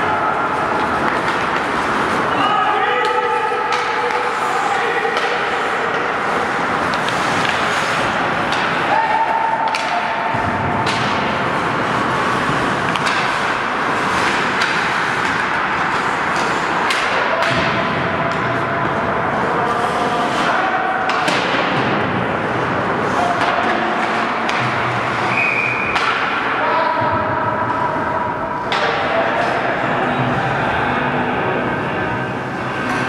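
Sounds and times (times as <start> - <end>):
players shouting: 0.0 - 33.0
skates scraping on ice: 0.1 - 26.6
hockey sticks clacking on puck: 0.4 - 30.2, 32.4 - 33.0.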